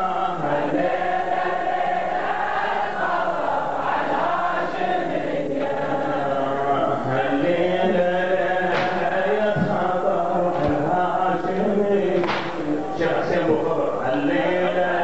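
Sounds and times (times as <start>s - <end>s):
men chanting in unison: 0.0s - 15.0s.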